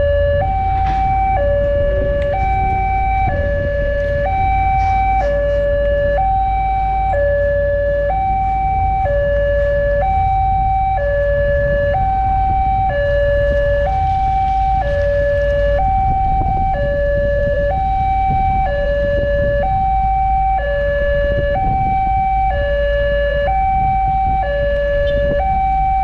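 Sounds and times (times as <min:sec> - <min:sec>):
level crossing two-tone alarm: 0:00.0 - 0:26.0
low rumble: 0:00.0 - 0:26.0.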